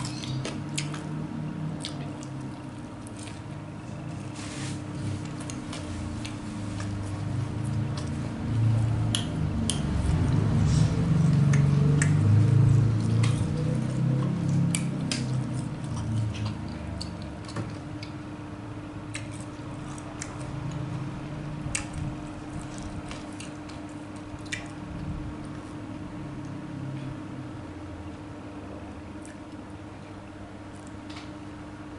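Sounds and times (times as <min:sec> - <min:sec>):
chewing and mouth sounds: 0:00.0 - 0:04.1, 0:05.0 - 0:18.4, 0:19.0 - 0:21.0, 0:21.6 - 0:25.8, 0:29.1 - 0:31.2.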